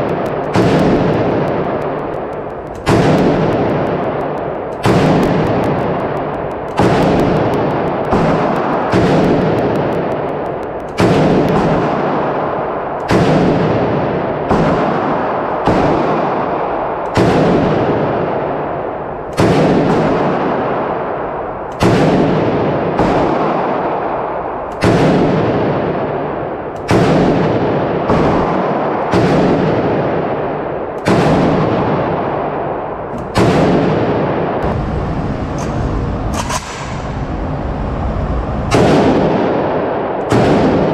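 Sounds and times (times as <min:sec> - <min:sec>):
rifle shots echoing indoors: 0:00.0 - 0:40.9.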